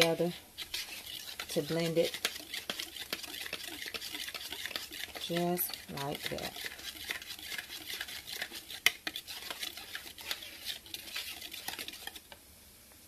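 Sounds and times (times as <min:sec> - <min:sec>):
whisk scraping in a saucepan: 0:00.0 - 0:12.4.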